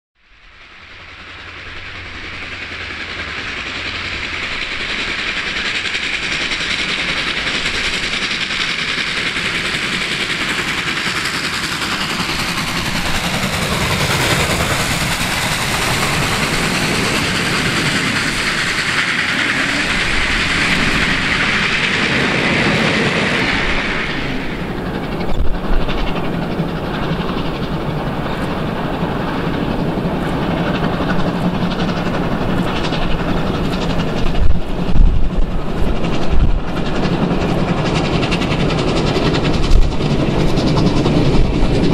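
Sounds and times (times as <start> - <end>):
distant steam train running: 0.2 - 41.9
train wheels clattering over rail joints: 0.9 - 41.9.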